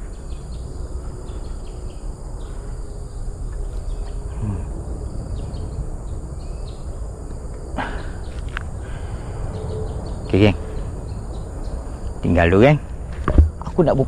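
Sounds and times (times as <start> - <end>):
insects chirping and buzzing: 0.0 - 14.0
steady low rumble: 0.0 - 14.0.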